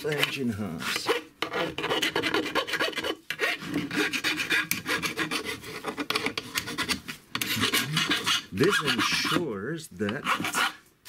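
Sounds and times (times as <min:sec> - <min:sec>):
rasp filing metal: 0:00.0 - 0:09.5, 0:10.1 - 0:10.8.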